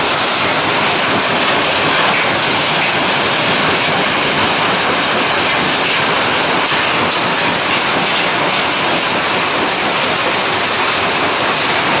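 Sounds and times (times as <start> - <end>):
gravel pouring onto a stockpile: 0.0 - 12.0.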